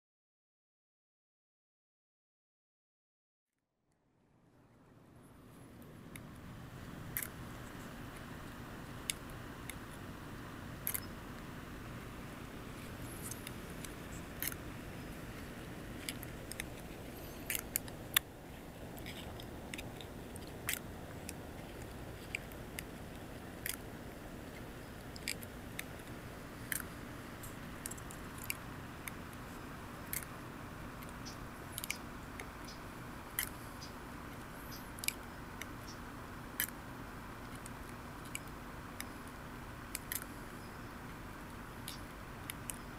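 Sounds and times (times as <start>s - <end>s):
steady hiss: 4.5s - 42.9s.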